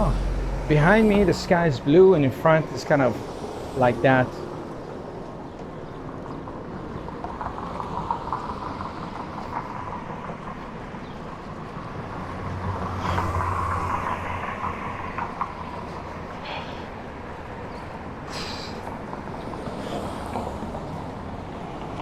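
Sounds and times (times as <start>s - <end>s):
heavy vehicle passing: 0.0s - 5.5s, 7.4s - 21.5s
street traffic: 0.0s - 22.0s.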